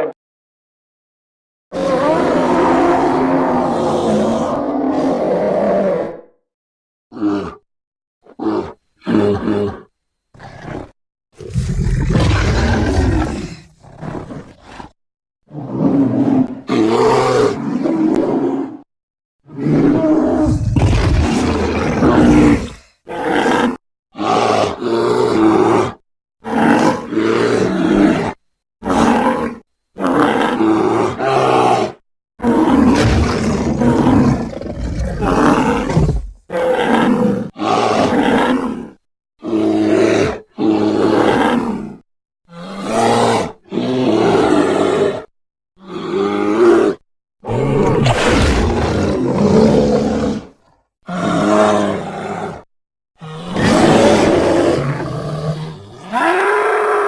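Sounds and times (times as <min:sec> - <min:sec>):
bear roars and growls: 0:01.7 - 0:06.4, 0:07.1 - 0:07.6, 0:08.2 - 0:57.0.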